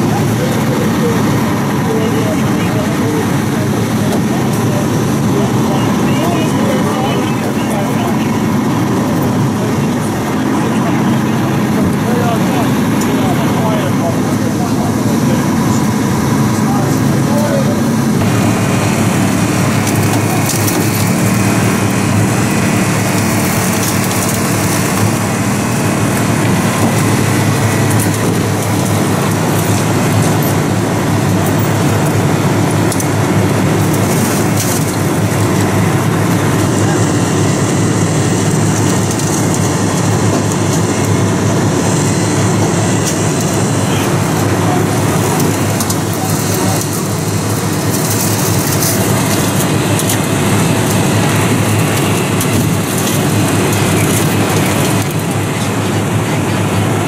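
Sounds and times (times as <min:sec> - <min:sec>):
engine and traffic noise: 0:00.0 - 0:57.0
hydraulic power unit running: 0:00.0 - 0:57.0.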